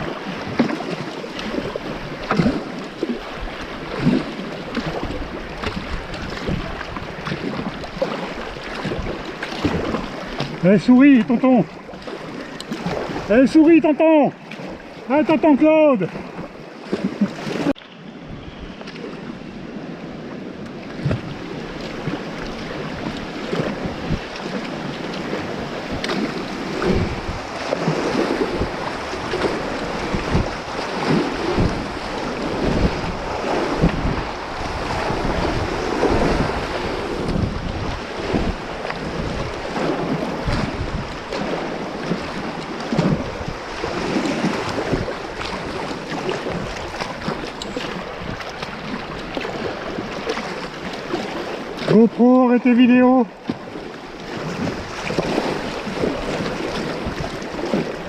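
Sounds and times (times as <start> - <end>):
paddle splashes: 0.0 - 58.0
river water rushing: 0.0 - 58.0
wind buffeting microphone: 0.0 - 58.0.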